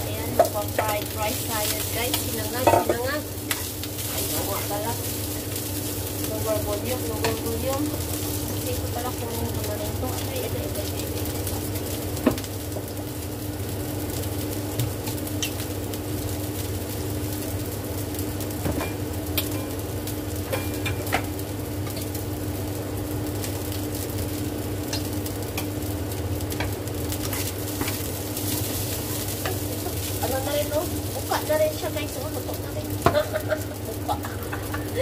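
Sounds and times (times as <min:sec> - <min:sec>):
rice sizzling in a pan: 0:00.0 - 0:35.0.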